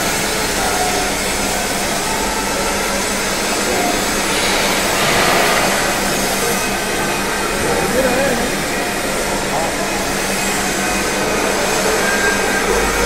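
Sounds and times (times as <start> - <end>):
industrial machine roar: 0.0 - 13.0.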